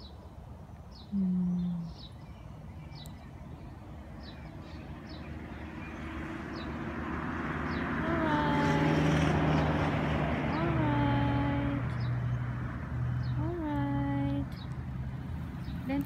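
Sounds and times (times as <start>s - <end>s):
birds chirping: 0.0s - 16.0s
car approaching: 0.7s - 16.0s.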